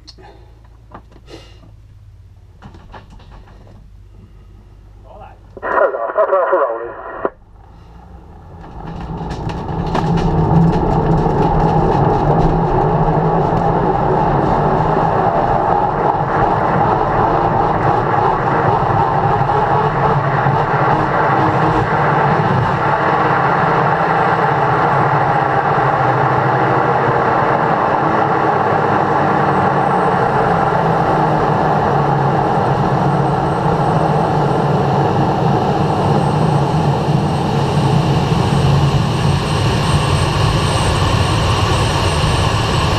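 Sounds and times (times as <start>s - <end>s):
plane engine at full power: 0.0s - 42.9s.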